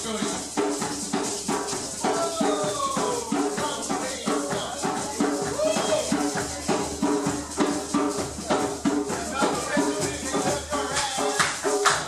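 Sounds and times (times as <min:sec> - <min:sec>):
hand percussion groove: 0:00.0 - 0:12.0
shakers rattling: 0:00.0 - 0:12.0.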